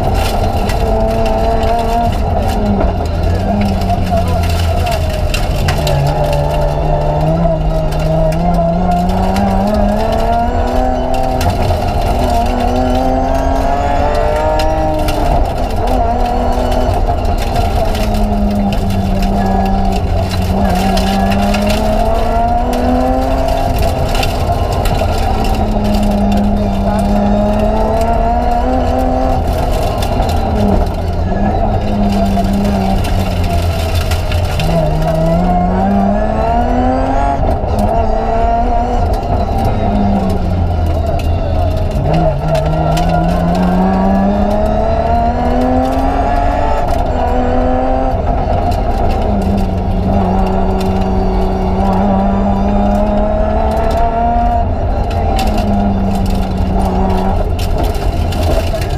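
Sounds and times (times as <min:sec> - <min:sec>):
rally car engine from inside cabin: 0:00.0 - 0:58.9.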